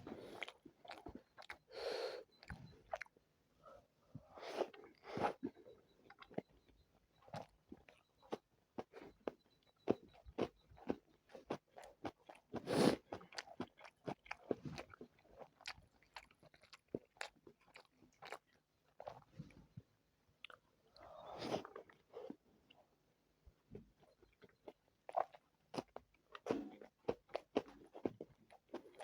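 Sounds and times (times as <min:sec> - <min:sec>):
chewing and biting food: 0:00.0 - 0:03.2, 0:04.2 - 0:19.8, 0:20.4 - 0:22.9, 0:23.7 - 0:29.0.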